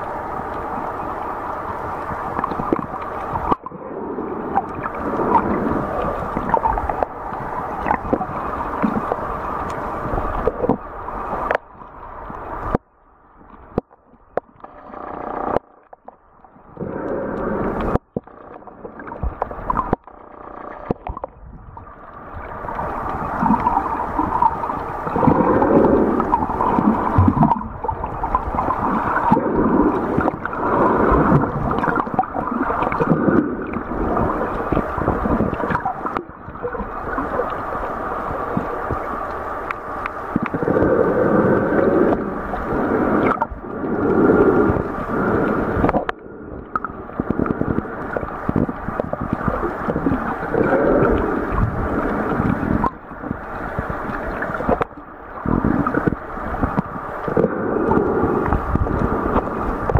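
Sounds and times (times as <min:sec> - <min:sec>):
underwater water gurgling: 0:00.0 - 0:59.9.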